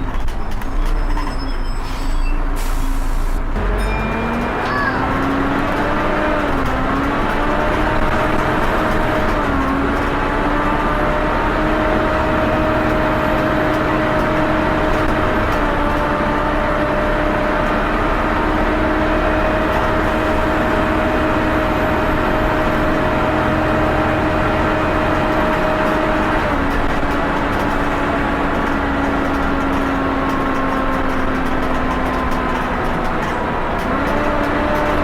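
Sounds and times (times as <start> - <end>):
bus engine rumble: 0.0 - 35.0.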